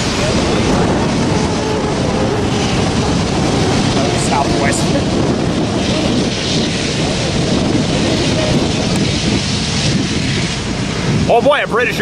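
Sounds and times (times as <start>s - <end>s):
jet airliners taxiing: 0.0s - 12.0s
road traffic: 0.0s - 12.0s.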